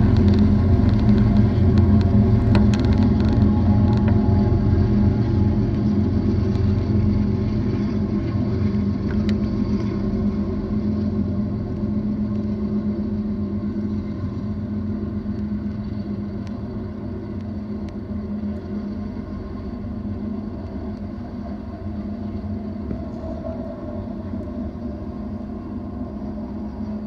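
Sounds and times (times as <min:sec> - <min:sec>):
freight train wheels rumbling on rail: 0:00.0 - 0:27.0
low steady hum: 0:00.0 - 0:27.0.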